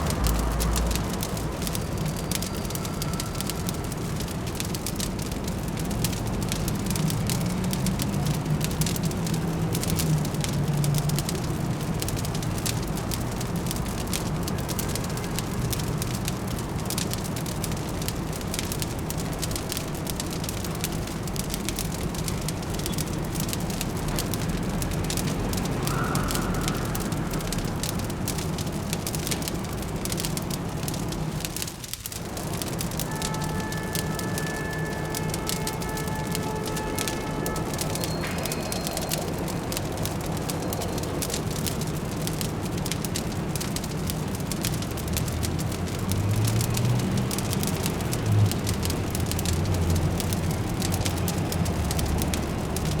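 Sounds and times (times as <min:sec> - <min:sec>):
fireplace crackling and popping: 0:00.0 - 0:53.0
low city hum: 0:00.0 - 0:53.0.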